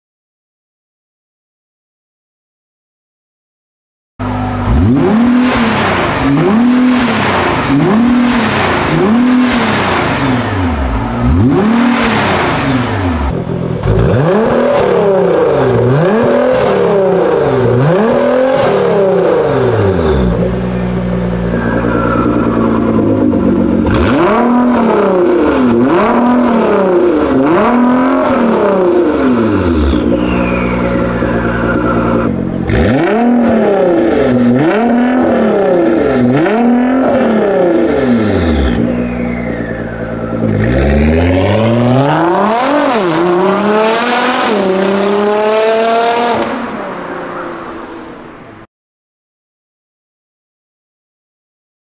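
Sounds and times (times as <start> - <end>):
car engine idling: 4.2 - 48.6
car engine revving: 4.2 - 48.7.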